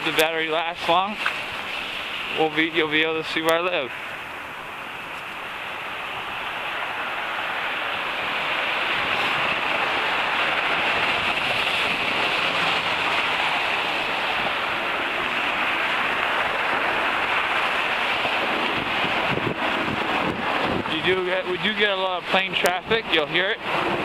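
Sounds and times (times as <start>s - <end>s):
jet airliner roaring overhead: 1.4s - 24.0s.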